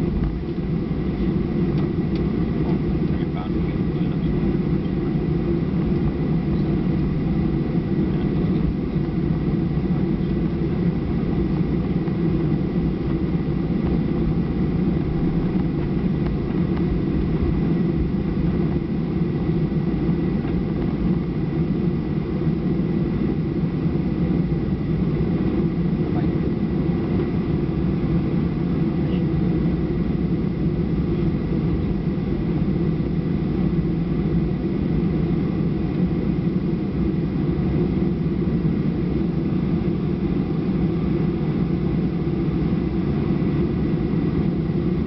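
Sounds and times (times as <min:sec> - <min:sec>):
faint steady engine whine: 0:00.0 - 0:45.0
jet engine low rumble: 0:00.0 - 0:45.0.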